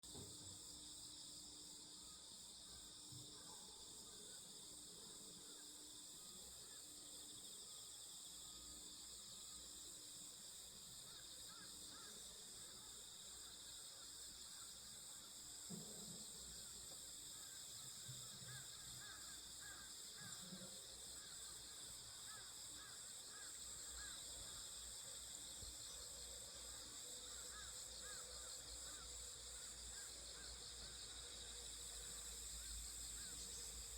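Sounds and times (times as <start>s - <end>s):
insects chorus: 0.0s - 33.9s.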